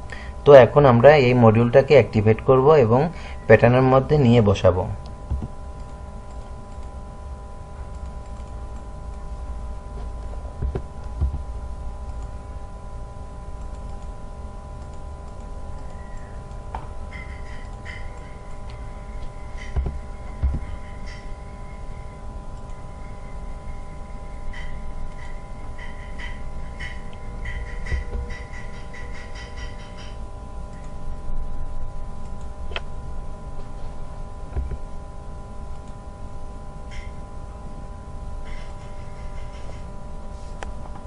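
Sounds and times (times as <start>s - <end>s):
held tones humming: 0.0s - 41.0s.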